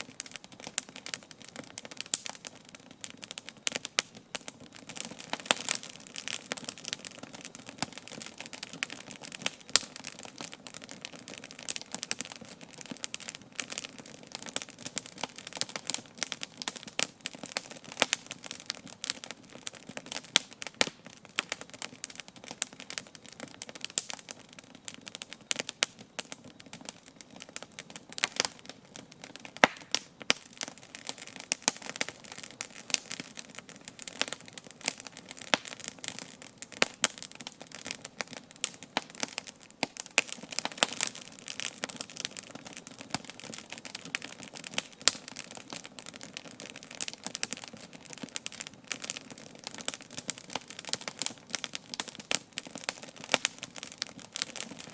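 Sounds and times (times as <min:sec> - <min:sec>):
wood campfire crackling: 0:00.0 - 0:54.9.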